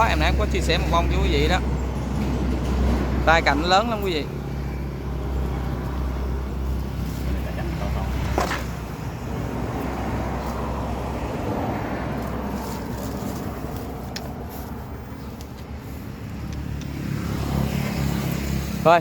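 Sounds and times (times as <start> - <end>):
vehicle passing by: 0.0 - 19.0.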